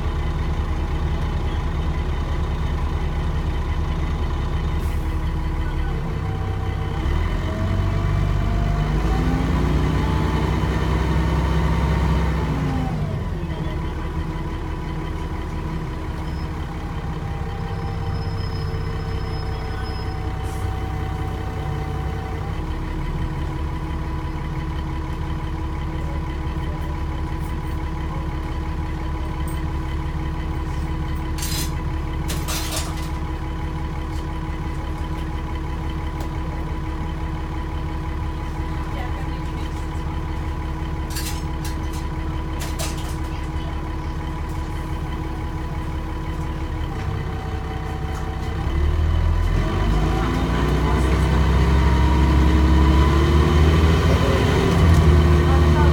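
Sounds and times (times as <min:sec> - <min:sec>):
bus diesel engine: 0:00.0 - 0:55.9.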